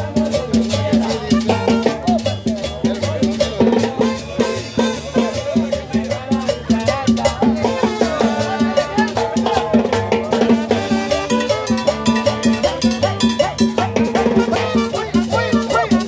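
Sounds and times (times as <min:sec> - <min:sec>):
salsa music: 0:00.0 - 0:16.0.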